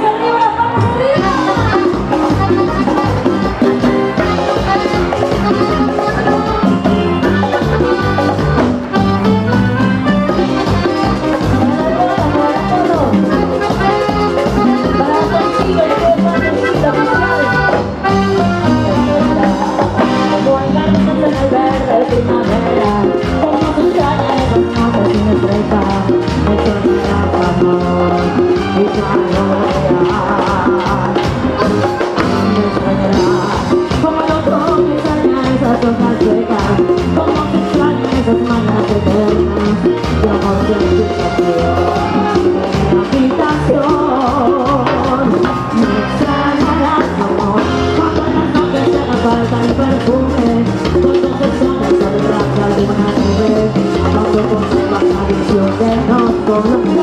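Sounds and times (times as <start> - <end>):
live band playing latin dance music: 0.0 - 57.0
woman singing into a microphone: 0.0 - 57.0.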